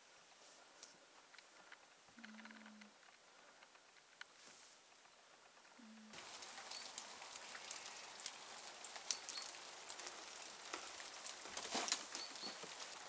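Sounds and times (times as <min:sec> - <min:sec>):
rain on hard surfaces: 0:00.0 - 0:13.0.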